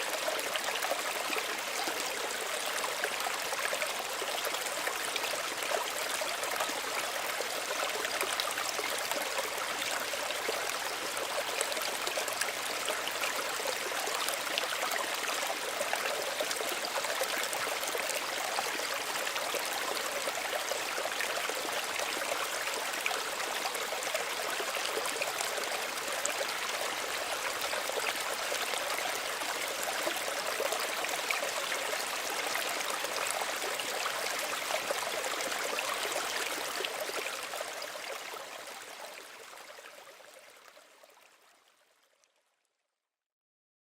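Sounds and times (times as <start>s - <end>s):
stream babbling over stones: 0.0s - 41.4s.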